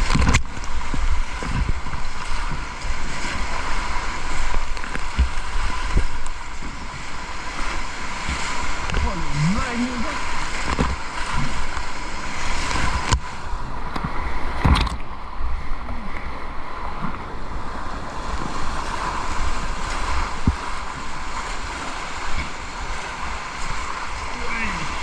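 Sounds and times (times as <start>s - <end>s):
rushing whitewater: 0.0s - 25.0s
wind buffeting microphone: 0.0s - 25.0s.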